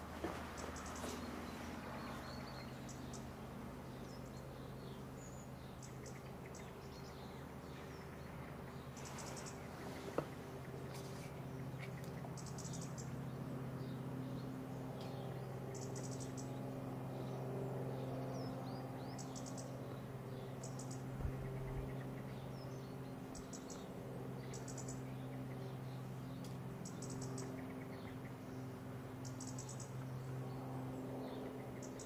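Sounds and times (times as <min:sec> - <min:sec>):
steady low hum: 0:00.0 - 0:32.0
birds ticking calls: 0:00.2 - 0:32.0.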